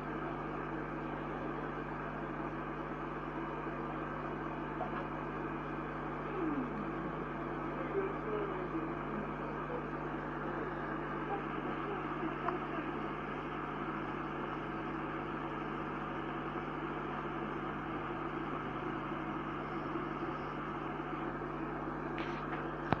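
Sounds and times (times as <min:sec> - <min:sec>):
kettle boiling: 0:00.0 - 0:23.0.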